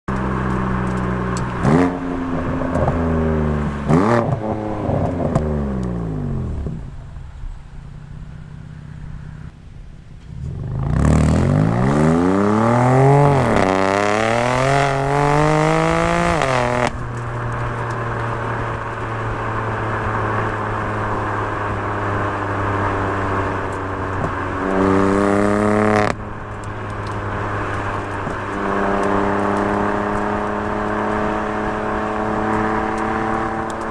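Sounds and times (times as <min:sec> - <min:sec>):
car engine revving: 0:00.1 - 0:07.2, 0:07.9 - 0:33.9.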